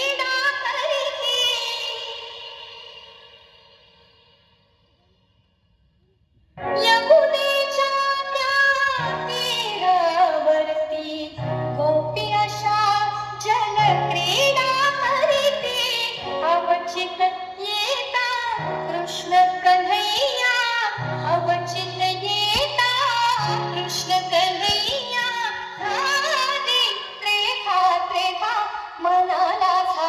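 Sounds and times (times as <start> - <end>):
woman singing: 0.0 - 4.1, 6.7 - 30.0.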